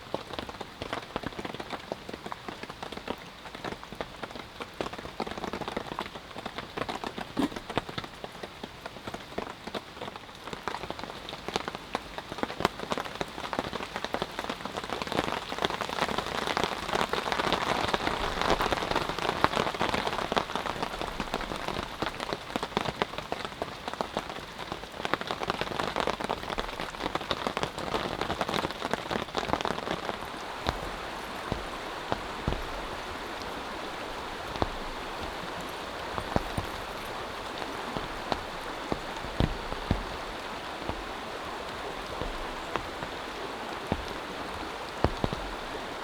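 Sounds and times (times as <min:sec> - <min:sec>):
rain falling: 0:00.0 - 0:46.0
raindrops ticking on surface: 0:00.0 - 0:46.0.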